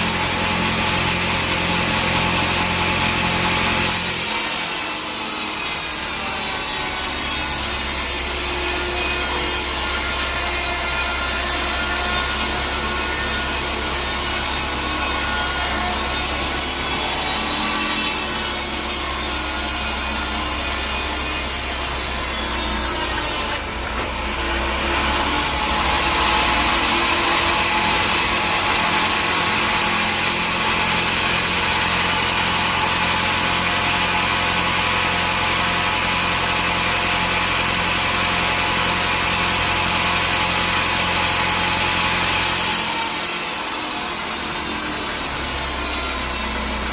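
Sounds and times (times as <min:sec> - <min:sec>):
saw cutting through log: 0:00.0 - 0:46.9.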